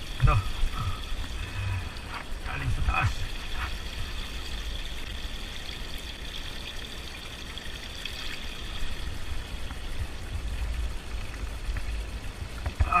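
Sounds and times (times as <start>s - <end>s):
spring water pouring and trickling: 0.0s - 13.0s.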